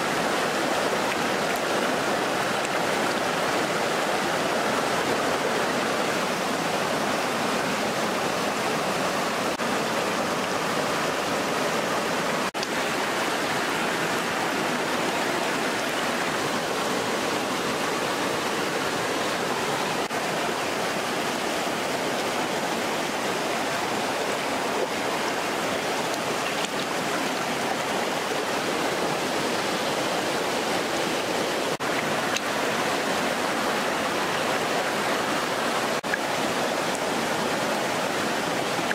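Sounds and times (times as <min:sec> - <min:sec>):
stream rushing over rock: 0:00.0 - 0:38.9.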